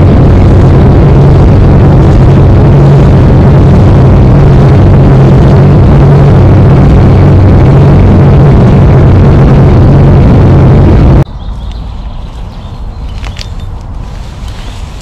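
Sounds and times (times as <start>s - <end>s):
road rushing noise: 0.0s - 15.0s
vehicle engine drone: 0.0s - 15.0s.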